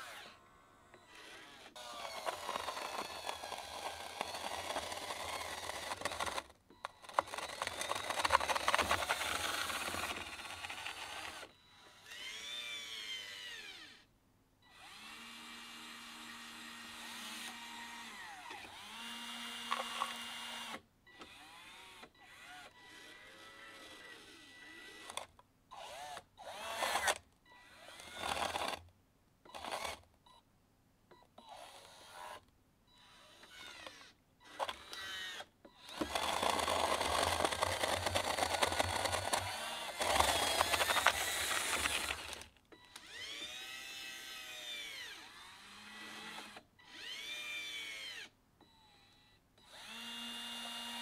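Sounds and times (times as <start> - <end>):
small electric motors whining: 0.0 - 28.8, 29.5 - 30.0, 31.4 - 51.0.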